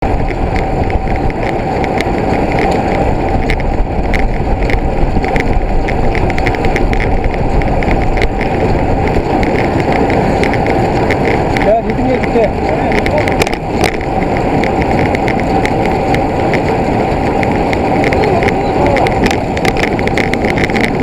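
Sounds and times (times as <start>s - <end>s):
motorbike engine running: 0.0s - 21.0s
wind buffeting microphone: 0.0s - 21.0s
light clicks and rattles: 0.2s - 21.0s.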